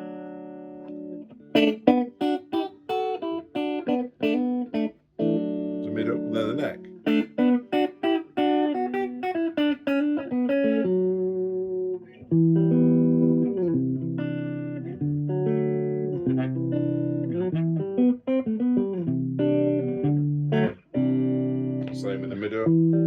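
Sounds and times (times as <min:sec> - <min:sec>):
clean electric guitar: 0:00.0 - 0:23.0.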